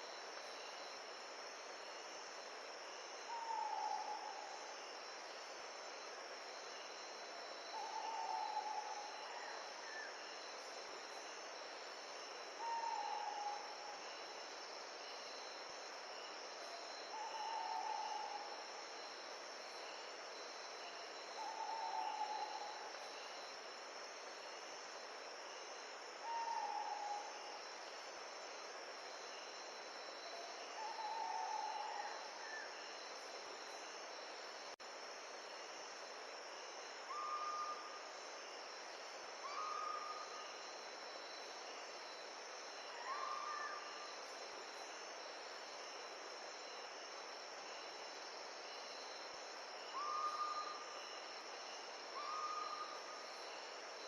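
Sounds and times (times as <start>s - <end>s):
insects trilling: 1.8s - 54.0s.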